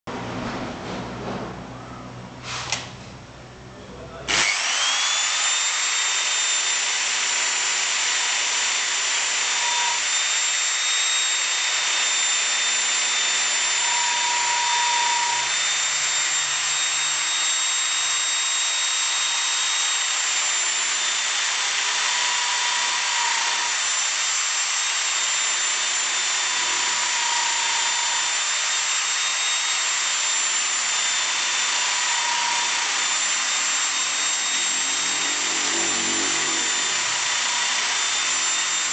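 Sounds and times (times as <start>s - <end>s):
milling machine cutting metal: 4.3s - 38.9s.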